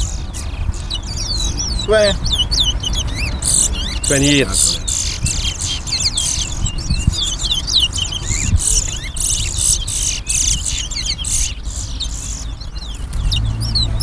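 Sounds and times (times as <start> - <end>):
finches singing: 0.0 - 14.0.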